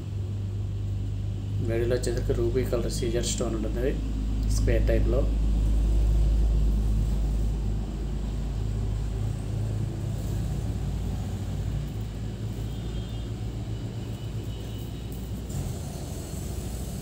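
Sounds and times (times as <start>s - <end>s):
low background rumble and hum: 0.0s - 17.0s.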